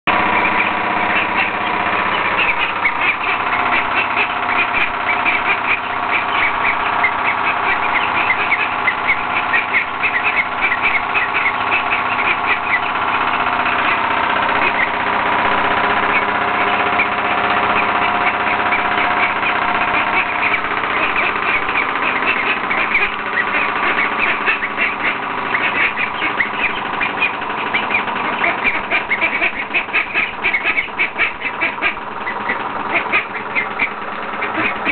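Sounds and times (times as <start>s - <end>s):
mechanical hum: 0.0s - 34.9s
ducks quacking: 0.1s - 34.9s.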